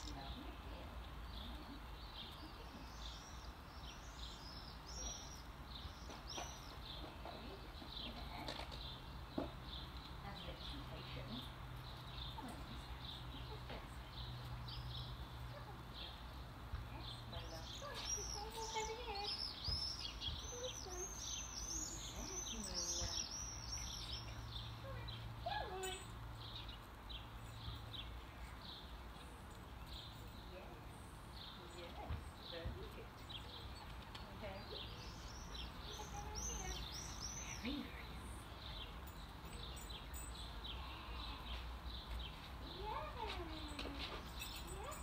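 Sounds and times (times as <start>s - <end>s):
birds chirping and singing: 0.0s - 45.0s.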